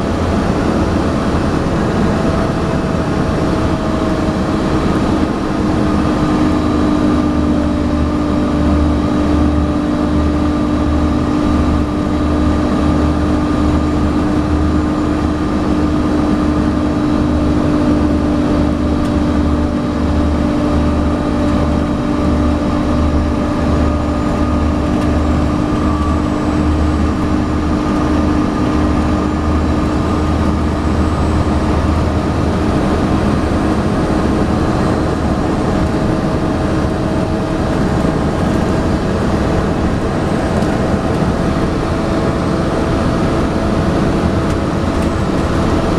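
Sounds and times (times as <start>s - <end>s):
bus diesel engine whining: 0.0s - 45.9s.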